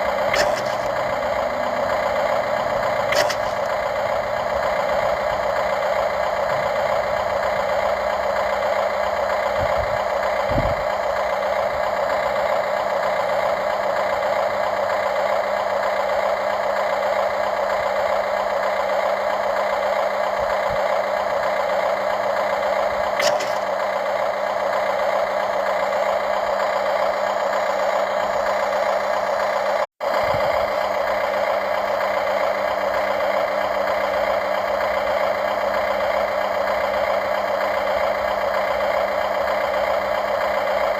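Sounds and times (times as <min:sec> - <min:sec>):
model excavator motor whining: 0:00.0 - 0:40.9.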